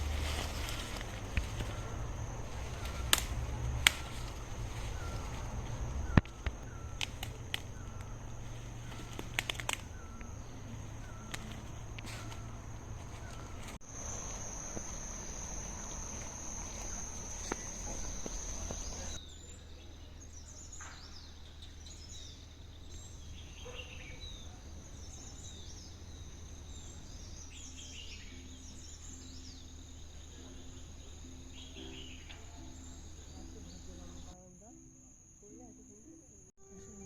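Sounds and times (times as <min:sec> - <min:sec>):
birds chirping: 0:00.0 - 0:37.0
insects droning: 0:00.0 - 0:37.0.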